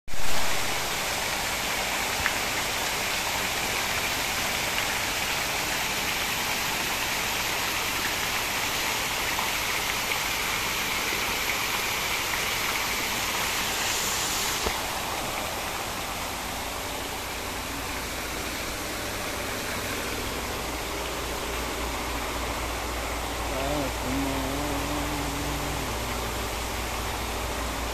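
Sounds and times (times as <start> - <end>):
water showering and splashing: 0.1 - 27.9.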